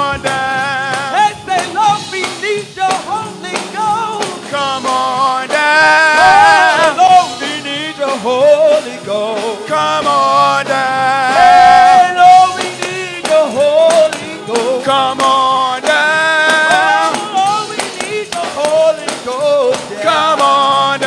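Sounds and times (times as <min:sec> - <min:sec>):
musical accompaniment: 0:00.0 - 0:21.0
person singing gospel: 0:00.0 - 0:21.0
sharp percussion hits: 0:00.0 - 0:21.0.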